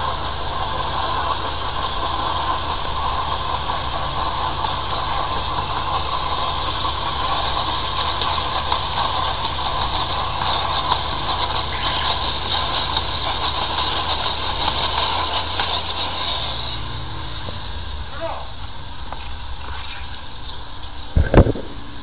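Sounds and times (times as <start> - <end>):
high-pressure water jet hissing: 0.0 - 22.0
low steady rumble: 0.0 - 22.0.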